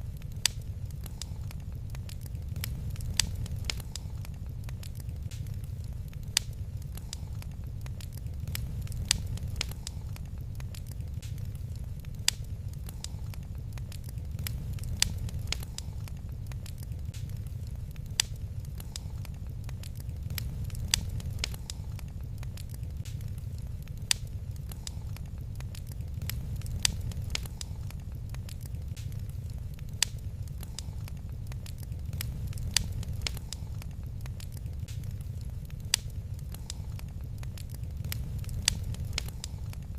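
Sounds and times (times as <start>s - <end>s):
fire roar: 0.0s - 39.9s
wood fire crackling and popping: 0.0s - 39.9s.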